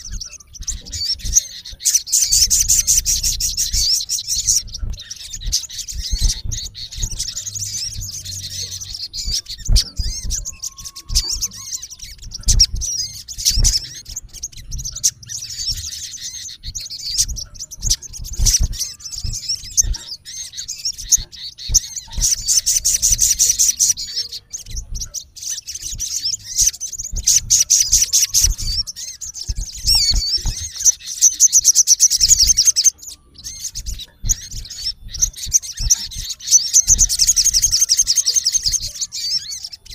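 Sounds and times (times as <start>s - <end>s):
low thumps and clicks: 0.0s - 24.0s, 25.8s - 31.0s, 33.8s - 37.9s
bird chirps and trills: 0.0s - 39.9s.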